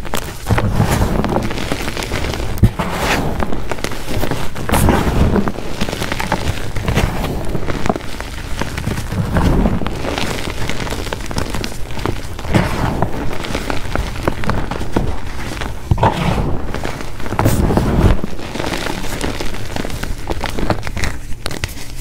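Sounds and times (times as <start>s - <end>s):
chalk crunching by hand: 0.0s - 22.0s.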